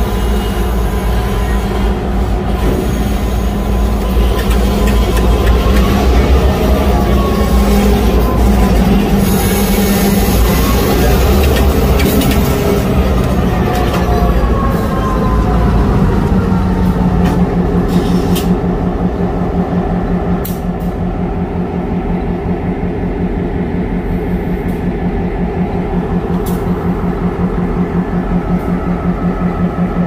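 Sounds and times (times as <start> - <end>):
freight train rumbling: 0.0 - 30.0.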